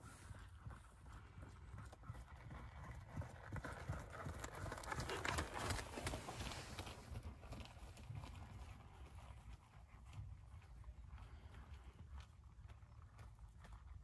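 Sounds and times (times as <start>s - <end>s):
horse hoofbeats on soft ground: 0.0s - 14.0s.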